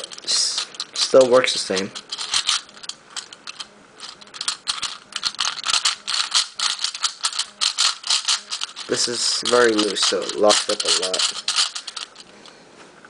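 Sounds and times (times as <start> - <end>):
plastic puzzle layers clicking: 0.0 - 12.3.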